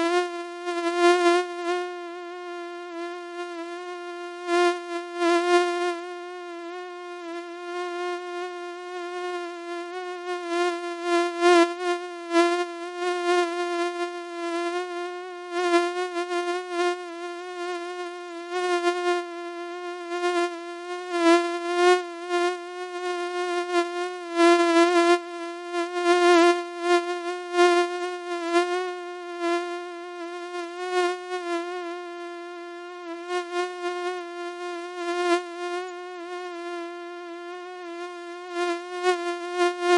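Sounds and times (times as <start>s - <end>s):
mosquito buzzing whine: 0.0s - 39.9s.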